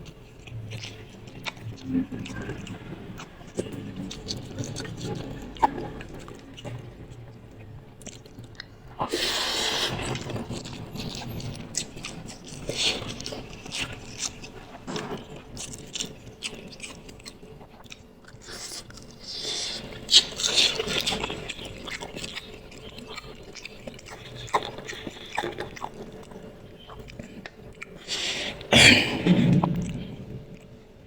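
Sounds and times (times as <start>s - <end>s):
biting and chewing noodles: 0.0s - 31.0s.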